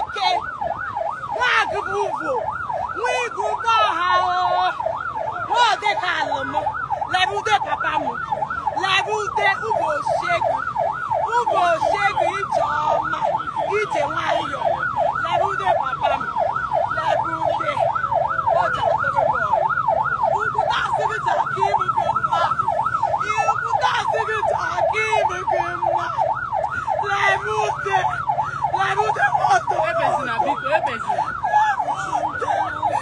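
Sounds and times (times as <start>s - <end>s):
siren yelping: 0.0s - 33.0s.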